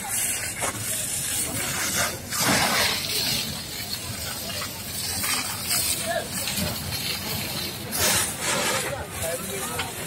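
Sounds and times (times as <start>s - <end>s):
fire hose water spraying: 0.0s - 10.0s.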